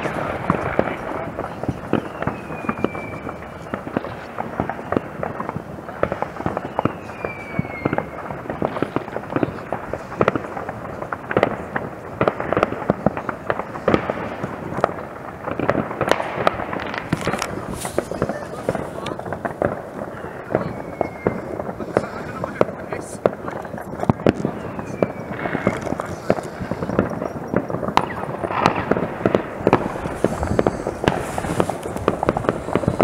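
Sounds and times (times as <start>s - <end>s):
fireworks crackling and banging: 0.0s - 33.0s
whistling firework: 0.0s - 33.0s.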